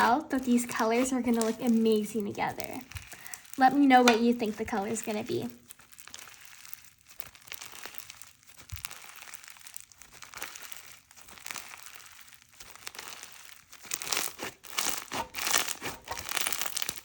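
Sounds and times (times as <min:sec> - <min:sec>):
slime squished by hand: 0:00.0 - 0:17.0.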